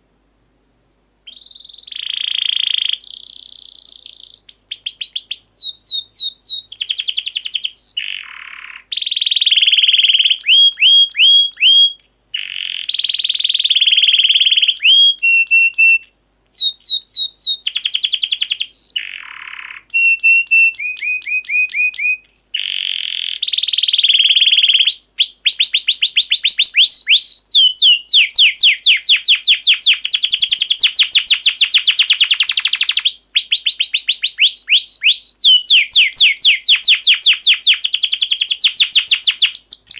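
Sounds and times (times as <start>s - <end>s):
canary singing: 1.2s - 39.9s.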